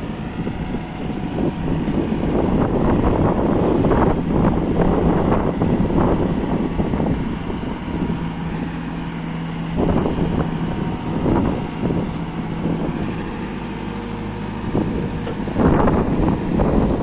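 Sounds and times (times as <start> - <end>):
diesel engine running: 0.0 - 17.0
wind on microphone: 0.0 - 17.0.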